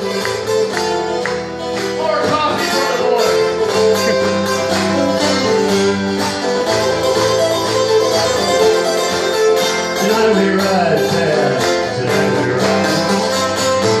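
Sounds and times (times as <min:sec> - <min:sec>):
picked guitar notes: 0:00.0 - 0:14.0
strummed guitar chords: 0:00.0 - 0:14.0.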